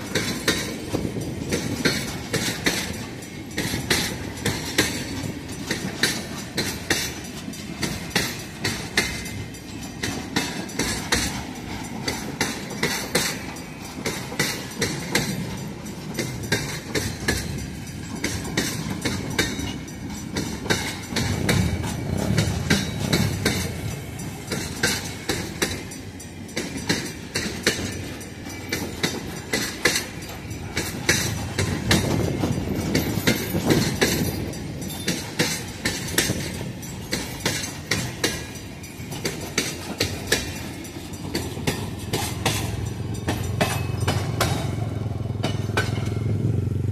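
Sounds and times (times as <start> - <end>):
train rolling rumble: 0.0 - 46.9
train wheels clacking: 0.0 - 46.9.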